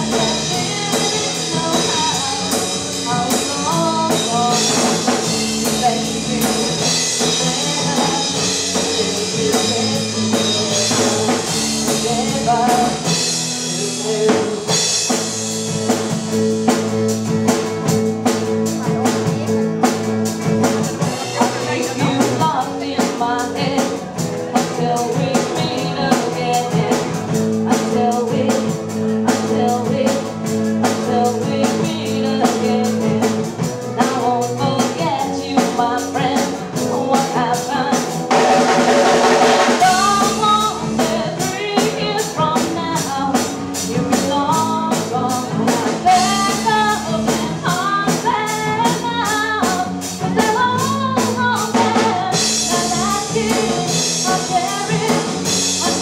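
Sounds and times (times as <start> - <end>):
acoustic and electric guitars: 0.0 - 56.0
bass guitar: 0.0 - 56.0
drum kit beat: 0.0 - 56.0
woman singing lead: 0.0 - 56.0.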